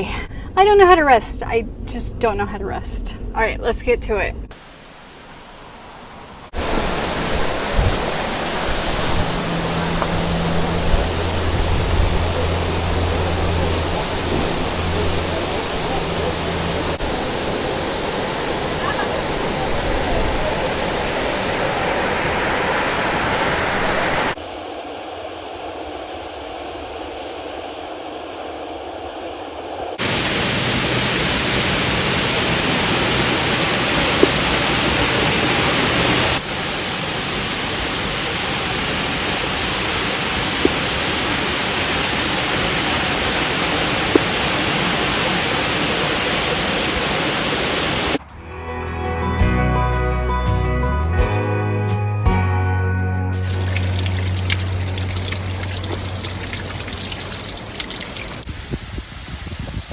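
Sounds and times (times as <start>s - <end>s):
waterfall roaring: 4.6s - 48.2s, 53.4s - 58.5s.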